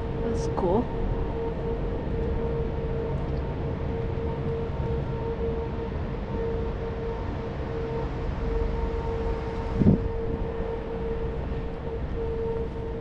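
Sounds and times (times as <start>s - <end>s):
machine whining and rumbling: 0.0s - 13.0s.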